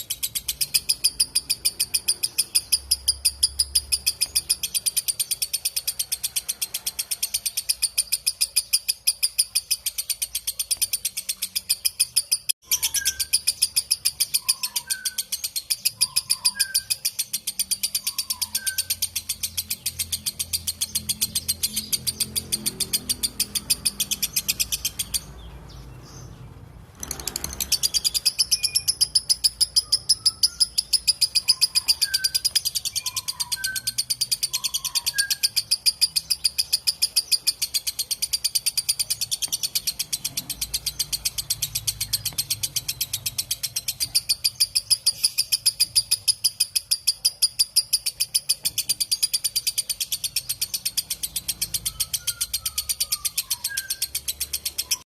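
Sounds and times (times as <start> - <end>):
faint bird chirps: 0.0 - 55.0
lovebird chattering song: 0.0 - 55.0.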